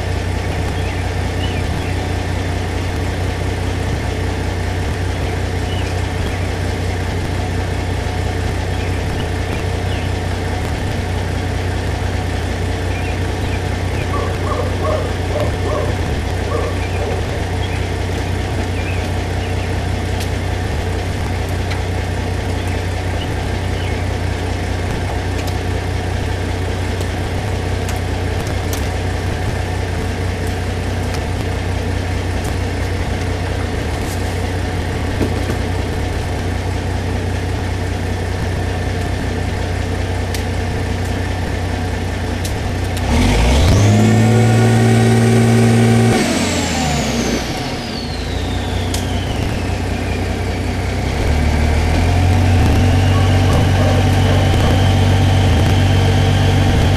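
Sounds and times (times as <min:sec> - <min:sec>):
engine idling and revving: 0:00.0 - 0:56.9.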